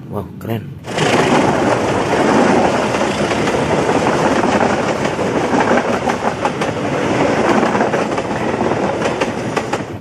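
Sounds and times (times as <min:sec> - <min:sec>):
train cars rumbling: 0:00.7 - 0:10.0
wheels clattering over rail joints: 0:00.8 - 0:10.0.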